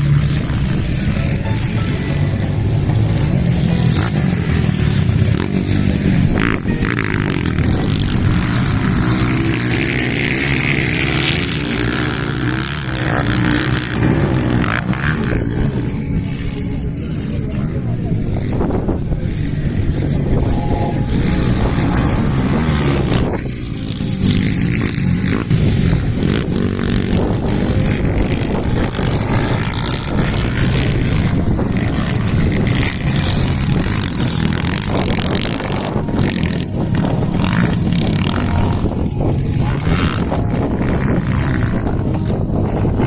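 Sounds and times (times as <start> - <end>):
racing motorcycles revving: 0.0 - 43.0.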